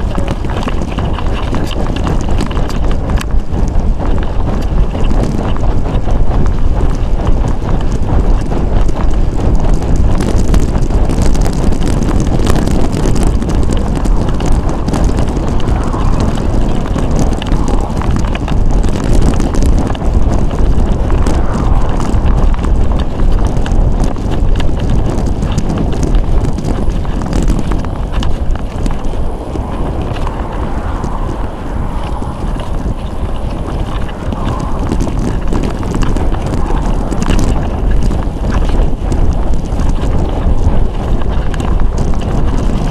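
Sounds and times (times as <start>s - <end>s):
tyre and road noise: 0.0s - 42.9s
wind rushing over microphone: 0.0s - 42.9s.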